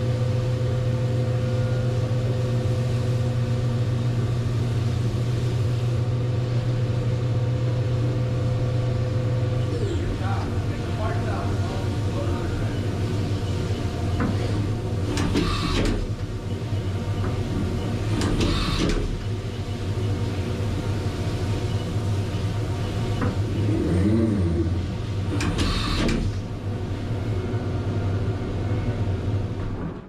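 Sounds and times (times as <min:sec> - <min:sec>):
milling machine humming: 0:00.0 - 0:30.0.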